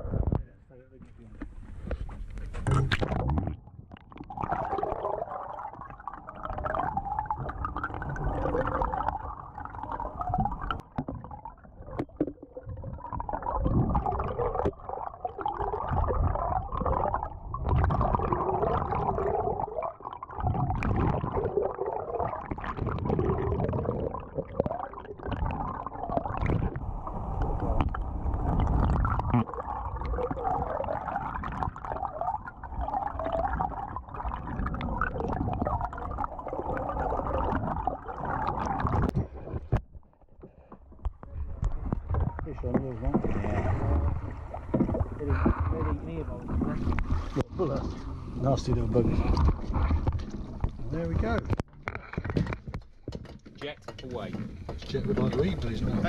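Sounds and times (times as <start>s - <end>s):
muffled underwater sloshing: 0.0s - 53.1s, 53.9s - 56.0s.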